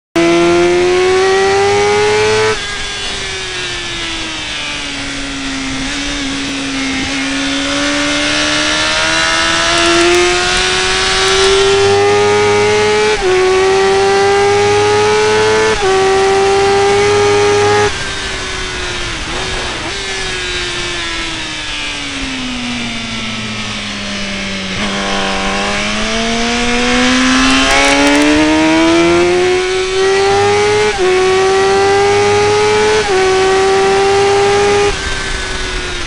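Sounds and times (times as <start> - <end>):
motorcycle engine revving: 0.2 - 36.0.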